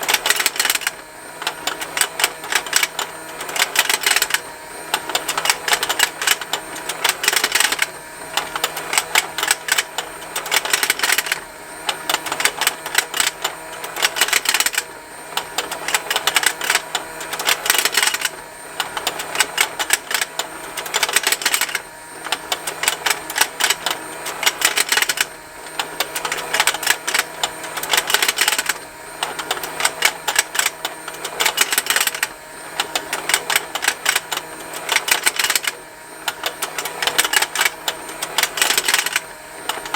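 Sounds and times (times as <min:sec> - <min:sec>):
plastic parts ticking: 0:00.0 - 0:04.4, 0:05.0 - 0:39.9
toy motor running: 0:00.0 - 0:39.9.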